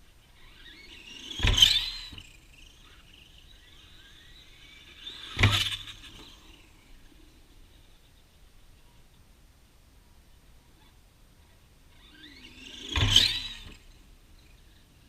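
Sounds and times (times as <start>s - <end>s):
rc car motor whine passing: 0.0s - 9.2s, 10.6s - 15.0s.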